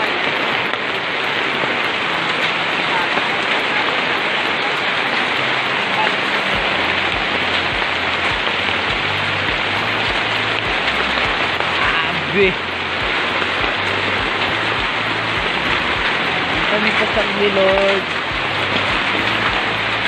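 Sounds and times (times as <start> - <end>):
hail and rain pelting: 0.0 - 20.0.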